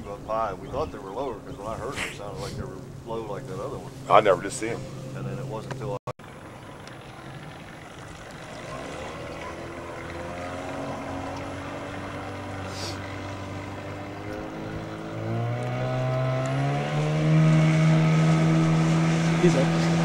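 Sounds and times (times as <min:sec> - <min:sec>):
outboard motor running: 0:01.2 - 0:20.0.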